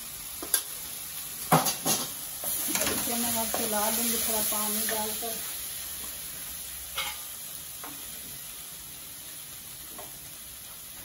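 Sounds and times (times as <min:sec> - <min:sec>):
masala sizzling in a pan: 0:00.0 - 0:11.0.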